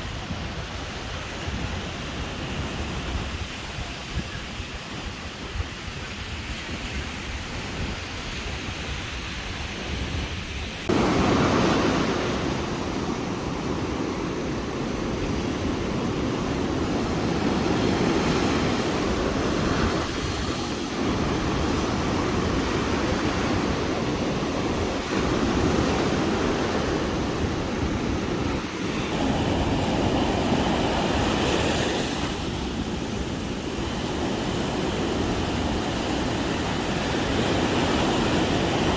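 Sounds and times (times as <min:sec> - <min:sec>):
surf washing on beach: 0:00.0 - 0:38.9
wind on microphone: 0:00.0 - 0:38.9.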